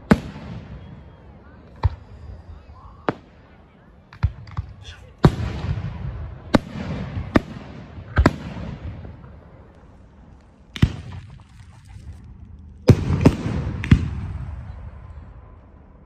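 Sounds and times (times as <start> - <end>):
fireworks booming with echo: 0.0 - 11.7, 12.6 - 15.9.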